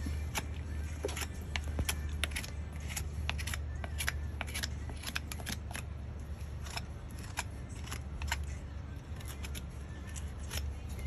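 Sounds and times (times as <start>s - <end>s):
low steady hum: 0.0s - 11.0s
tools snipping hoof: 0.1s - 5.9s, 6.5s - 8.6s, 9.2s - 11.0s.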